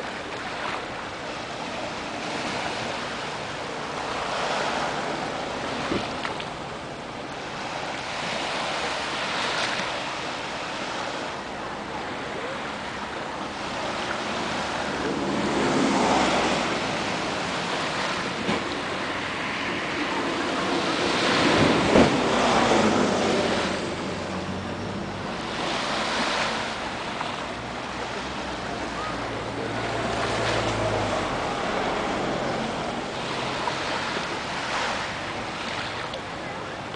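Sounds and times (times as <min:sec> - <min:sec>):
small waves breaking on beach: 0:00.0 - 0:36.9.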